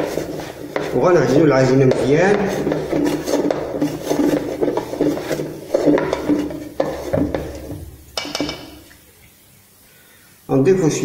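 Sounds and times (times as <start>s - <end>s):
spoon scraping metal bowl: 0.0s - 8.9s.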